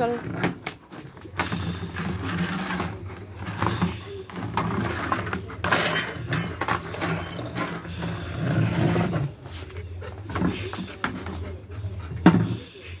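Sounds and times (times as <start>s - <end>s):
dog snuffling and breathing in drum: 1.4s - 13.0s.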